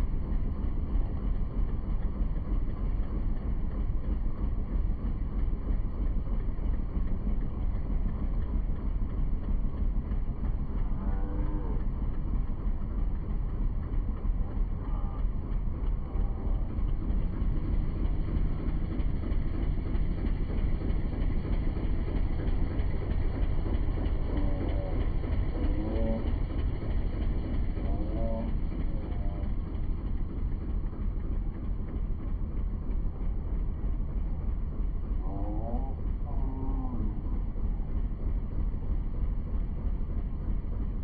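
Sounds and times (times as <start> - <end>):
boat motor rumbling: 0.0 - 41.0.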